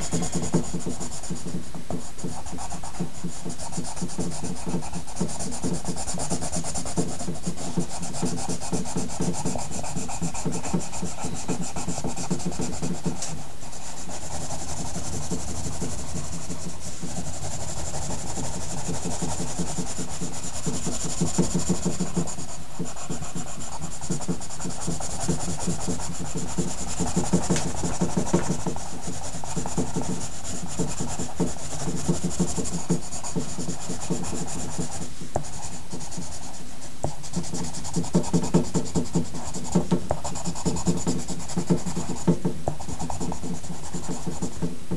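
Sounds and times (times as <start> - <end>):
pencil scratching on paper: 0.0 - 44.8.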